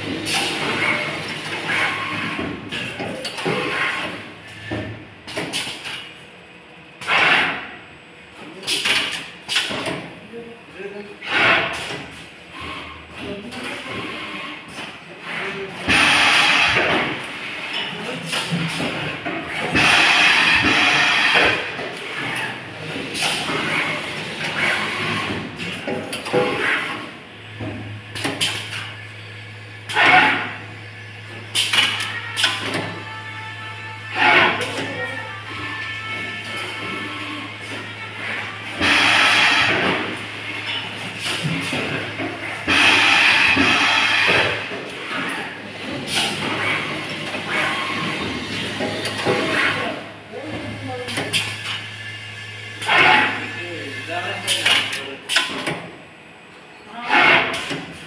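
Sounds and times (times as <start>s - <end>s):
machine mechanisms clacking: 0.0s - 6.2s, 8.6s - 10.1s, 11.2s - 29.0s, 29.8s - 30.6s, 31.3s - 33.1s, 34.1s - 35.1s, 35.8s - 56.0s, 57.0s - 58.0s.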